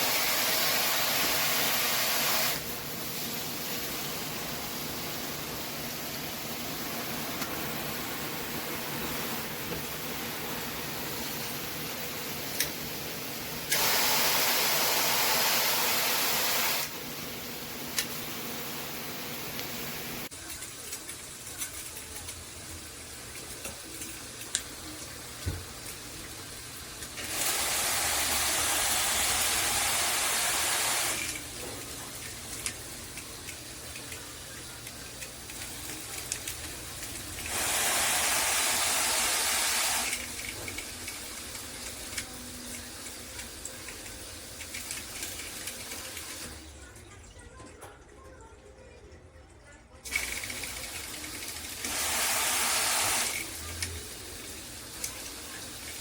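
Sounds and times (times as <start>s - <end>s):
water spraying from shower head: 0.0s - 12.8s, 13.4s - 17.0s, 20.2s - 46.7s, 50.0s - 56.0s.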